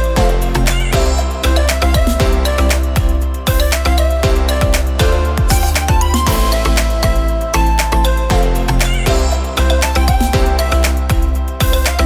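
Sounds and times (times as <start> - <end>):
deep bass line: 0.0 - 12.0
electronic music: 0.0 - 12.0
kick drum beat: 0.0 - 12.0
sustained synth notes: 0.0 - 12.0.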